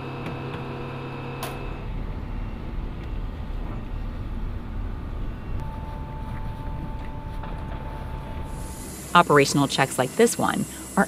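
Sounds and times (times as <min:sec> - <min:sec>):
machinery hum: 0:00.0 - 0:11.0
steady low rumble: 0:01.7 - 0:11.0.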